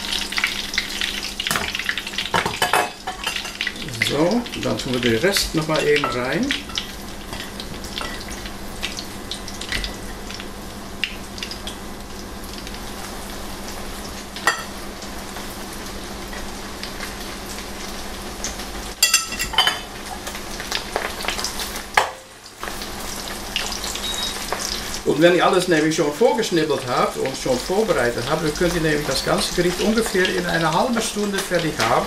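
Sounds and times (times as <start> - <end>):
oil sizzling with pops: 0.0 - 32.0.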